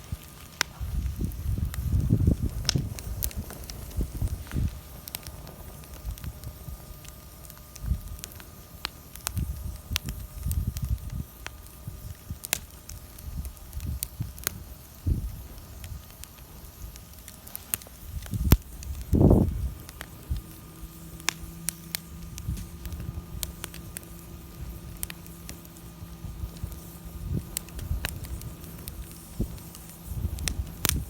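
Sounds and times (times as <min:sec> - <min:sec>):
low rumbling bursts: 0:00.0 - 0:08.6, 0:09.2 - 0:31.0
bonfire crackling and popping: 0:00.0 - 0:31.0.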